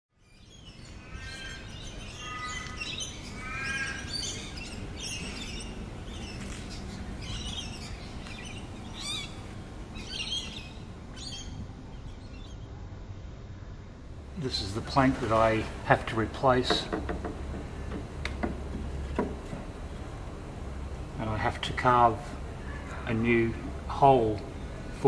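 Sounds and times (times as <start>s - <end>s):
low background noise: 0.2s - 25.0s
birds chirping and calling: 0.3s - 12.6s, 14.3s - 25.0s.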